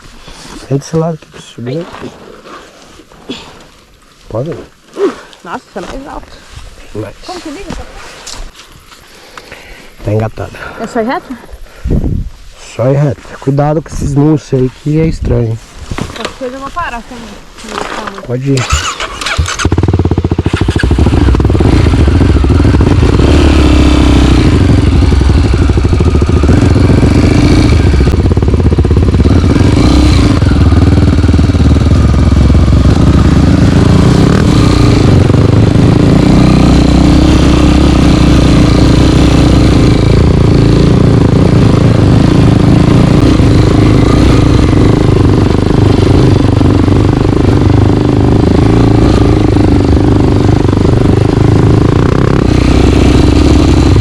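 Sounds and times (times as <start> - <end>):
trail bike engine running: 2.5 - 11.4, 16.2 - 54.0.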